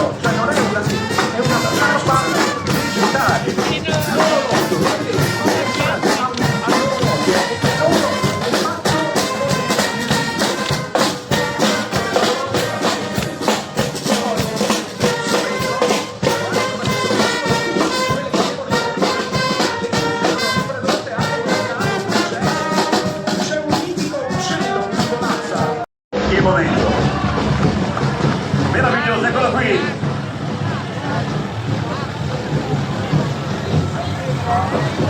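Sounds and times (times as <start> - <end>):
upbeat brass music with percussion: 0.0 - 35.0.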